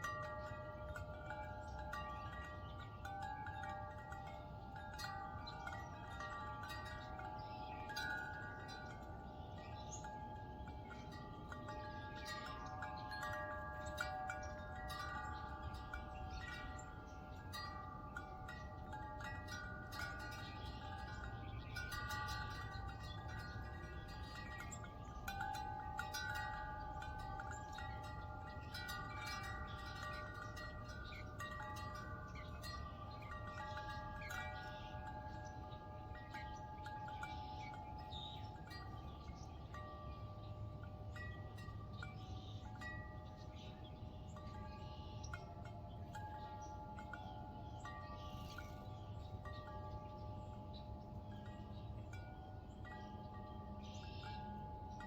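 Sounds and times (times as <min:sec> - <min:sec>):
wind chimes ringing: 0:00.0 - 0:55.0.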